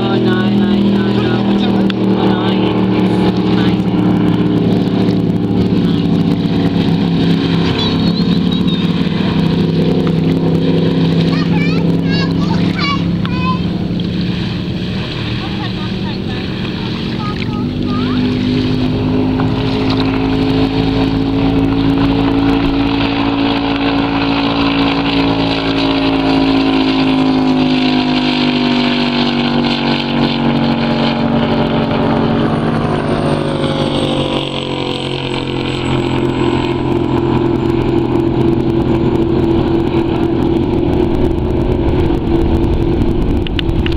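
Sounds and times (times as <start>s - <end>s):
boat engine running hard: 0.0s - 43.9s.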